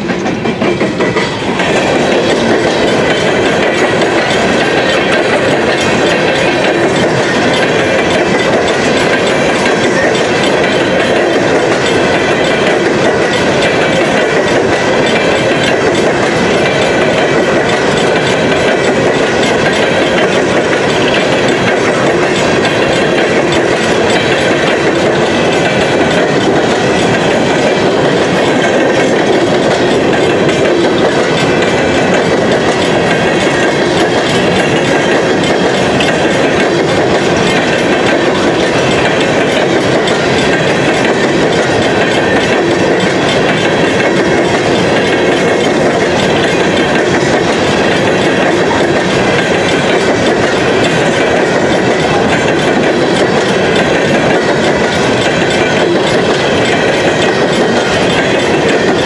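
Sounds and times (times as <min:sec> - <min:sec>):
freight train cars rolling: 0:00.0 - 0:59.0.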